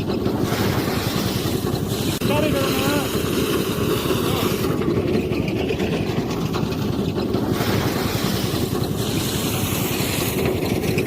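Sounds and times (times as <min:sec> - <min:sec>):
harvester engine drone: 0:00.0 - 0:11.0.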